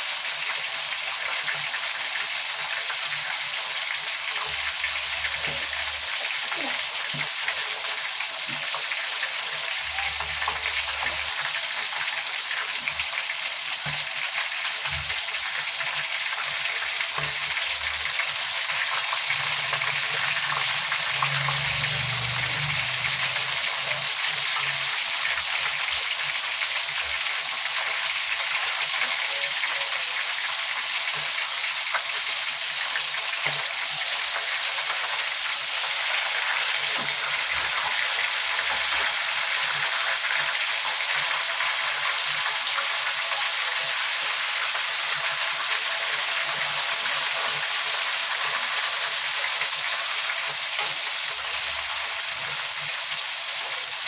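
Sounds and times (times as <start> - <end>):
chicken frying in hot oil: 0.0 - 54.0.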